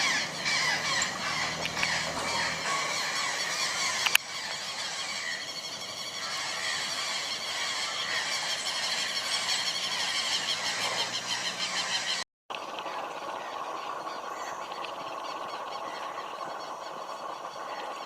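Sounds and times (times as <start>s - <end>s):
insects and birds chorus: 0.0s - 12.2s, 12.8s - 18.0s.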